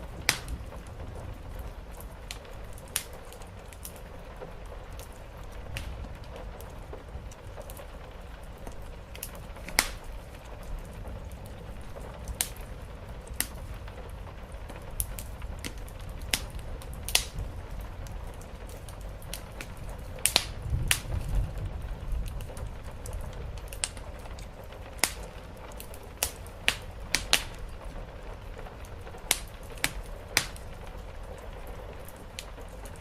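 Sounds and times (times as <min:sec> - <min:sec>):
rain on a roof: 0:00.0 - 0:33.0
wood fire crackling: 0:00.0 - 0:33.0.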